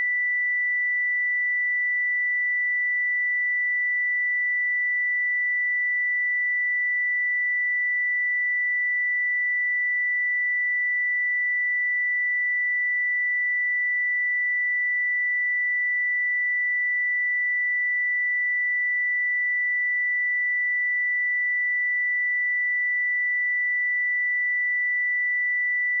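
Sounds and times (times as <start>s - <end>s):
sine-wave test tone: 0.0s - 26.0s.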